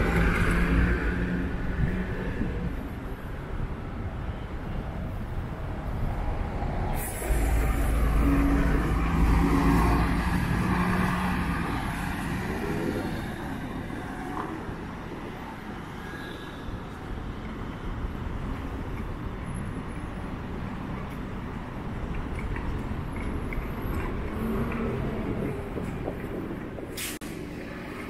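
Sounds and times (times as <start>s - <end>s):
hum of passing traffic: 0.0s - 28.0s.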